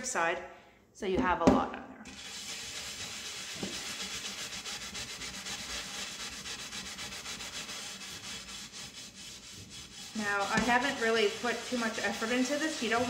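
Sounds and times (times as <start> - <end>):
scrub pad scouring a pot: 2.0 - 13.0.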